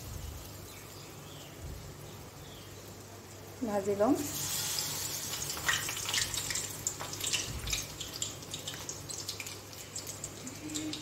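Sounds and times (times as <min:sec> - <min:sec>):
oil sizzling and popping: 0:00.0 - 0:11.0.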